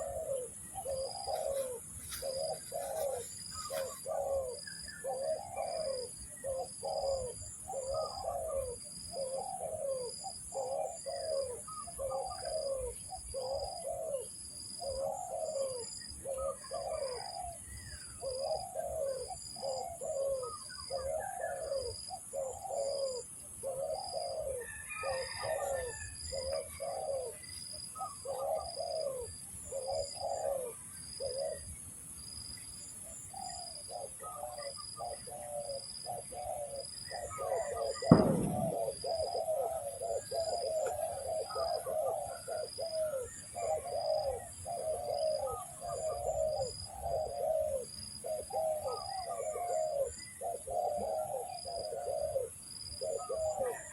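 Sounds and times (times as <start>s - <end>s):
doves cooing: 0.0s - 31.7s, 33.1s - 53.9s.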